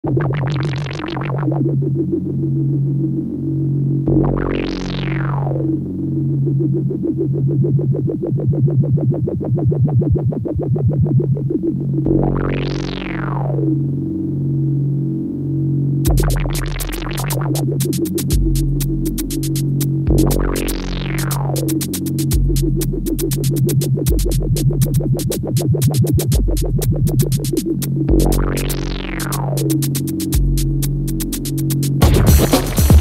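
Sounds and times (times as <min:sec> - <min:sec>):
synthesizer background music: 0:00.0 - 0:33.0.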